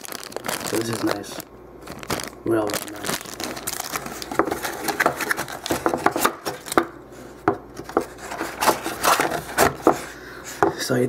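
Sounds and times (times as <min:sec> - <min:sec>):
hands handling cardboard: 0:02.0 - 0:10.9.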